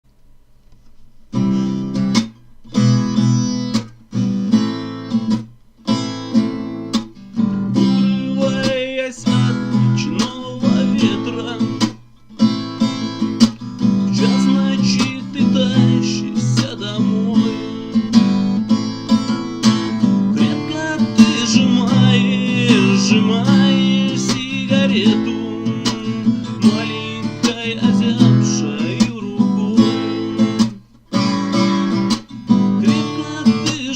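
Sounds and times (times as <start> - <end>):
acoustic guitar strumming chords: 1.3 - 33.9.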